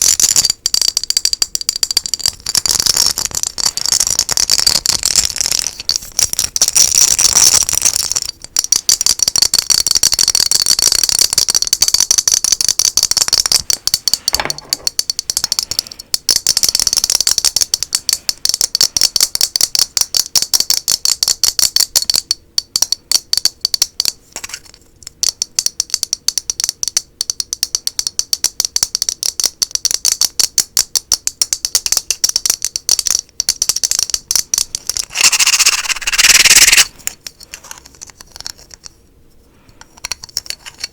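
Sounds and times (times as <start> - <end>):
fast tapping on object: 0.0 - 37.2.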